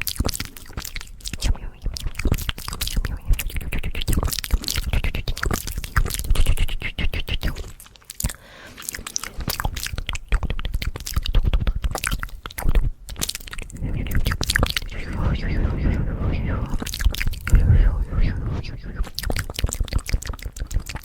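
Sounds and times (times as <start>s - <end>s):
wet lip and tongue clicks: 0.0s - 21.0s.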